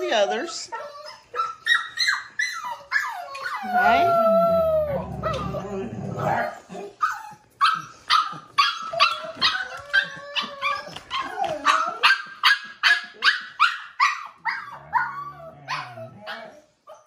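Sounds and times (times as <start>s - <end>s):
puppy barking and yipping: 0.2s - 4.0s, 6.4s - 17.0s.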